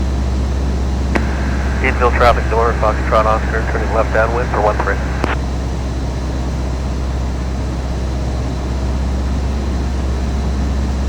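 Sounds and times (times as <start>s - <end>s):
airplane engine and propeller droning: 1.2s - 10.5s.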